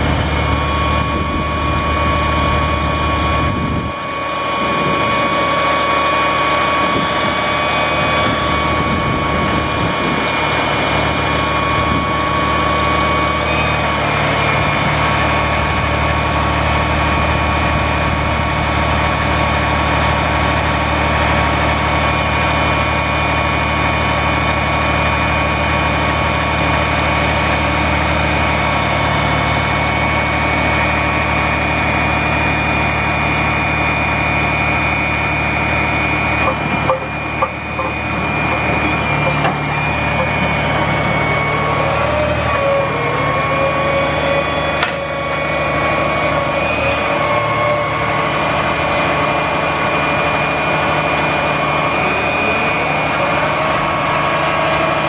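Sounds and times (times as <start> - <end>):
diesel truck engine idling: 0.0 - 55.0
steady high whine: 0.0 - 55.0.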